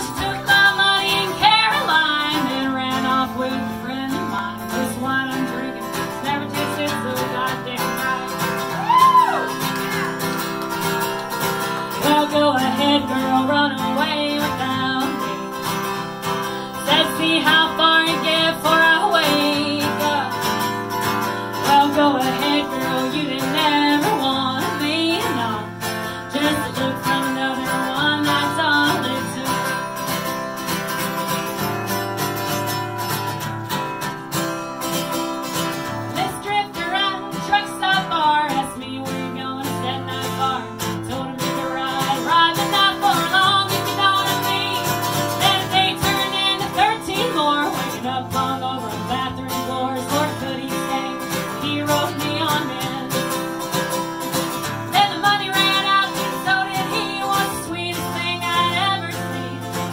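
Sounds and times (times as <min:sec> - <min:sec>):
acoustic guitar strumming: 0:00.0 - 0:59.9
woman singing country song: 0:00.0 - 0:59.9.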